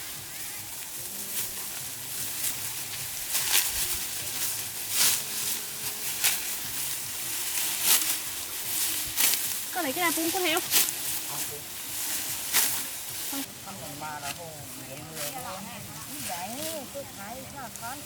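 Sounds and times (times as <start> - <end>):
crisp rustling swishes: 0.0 - 18.0
outdoor background noise: 0.0 - 18.0.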